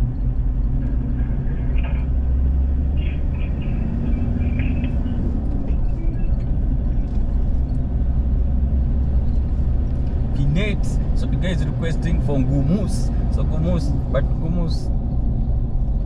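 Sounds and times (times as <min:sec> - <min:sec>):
car engine rumble: 0:00.0 - 0:16.0
road noise: 0:00.0 - 0:16.0.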